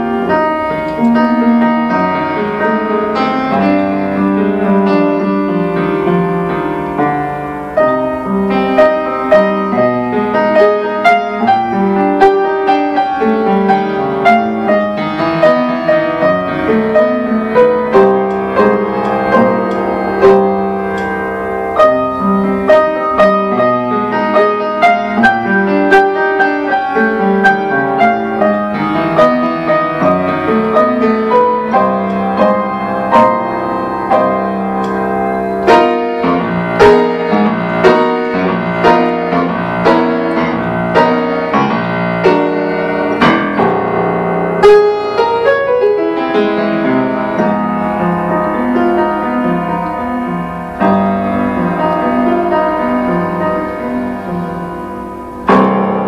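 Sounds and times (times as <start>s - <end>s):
upright piano playing: 0.0s - 56.0s.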